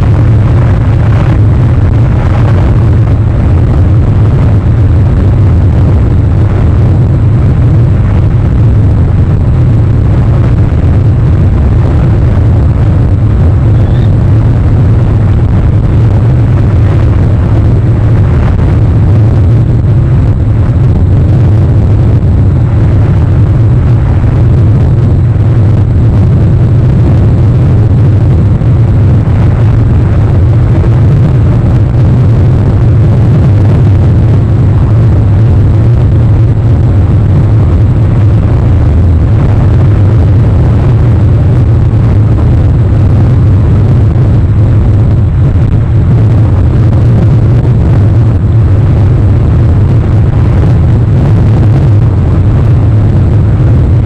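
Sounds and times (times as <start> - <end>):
loud low rumble: 0.0 - 54.0.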